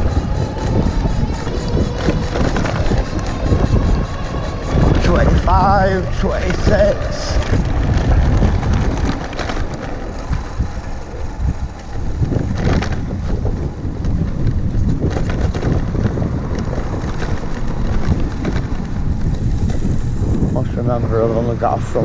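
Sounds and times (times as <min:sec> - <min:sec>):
bike knocks and rattles: 0:00.0 - 0:05.4, 0:07.4 - 0:20.6
wind buffeting microphone: 0:00.0 - 0:22.0.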